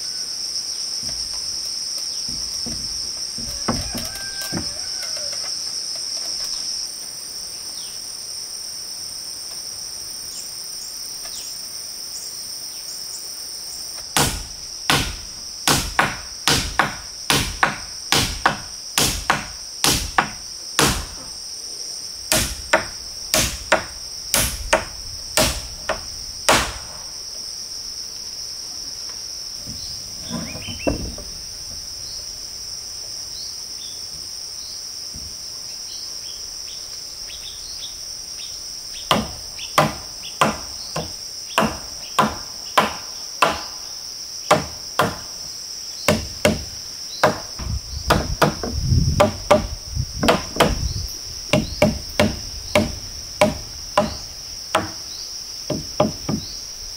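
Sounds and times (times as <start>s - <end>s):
insect chirring: 0.0s - 56.9s.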